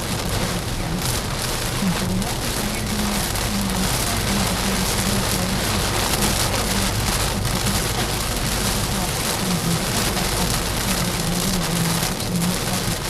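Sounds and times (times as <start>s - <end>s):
water spraying onto a car: 0.0s - 13.0s.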